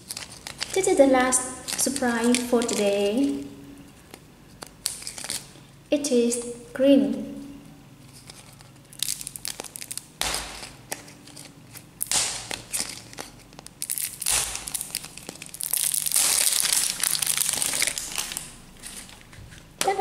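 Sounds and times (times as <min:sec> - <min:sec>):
plastic wrapper crinkling and tearing: 0:00.0 - 0:05.6, 0:08.1 - 0:20.0.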